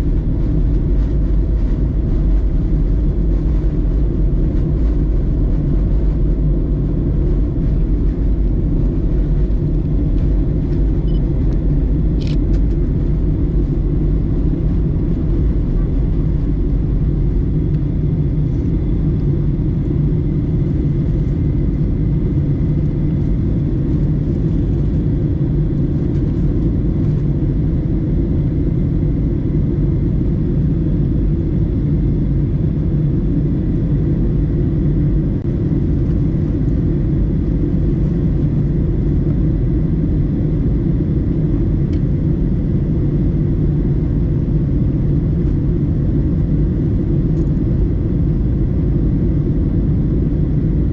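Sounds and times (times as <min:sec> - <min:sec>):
aircraft cabin engine roar: 0:00.0 - 0:50.9
faint high hum: 0:00.0 - 0:50.9.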